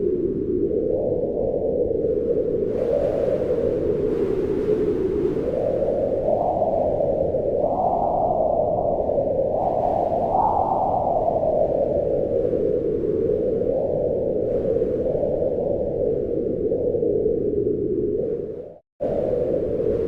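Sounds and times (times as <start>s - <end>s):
wind howling in gusts: 0.0s - 20.0s.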